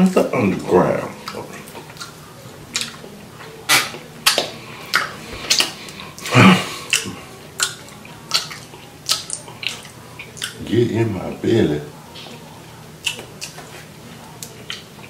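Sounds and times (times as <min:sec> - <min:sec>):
open-mouthed chewing with wet smacks: 0:00.4 - 0:10.7, 0:13.0 - 0:15.0.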